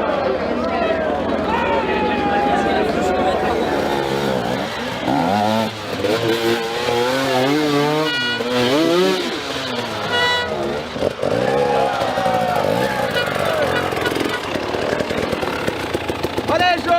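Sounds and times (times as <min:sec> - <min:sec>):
dirt bike engines revving: 0:00.0 - 0:16.9.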